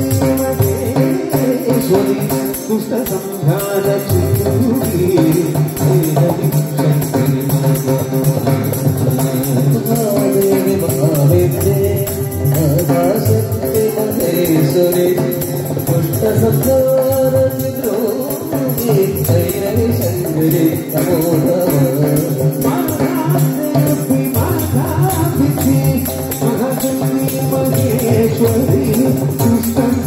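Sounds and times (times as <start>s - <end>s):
man singing a devotional chant: 0.0s - 8.2s, 9.0s - 30.0s
tabla: 0.0s - 30.0s.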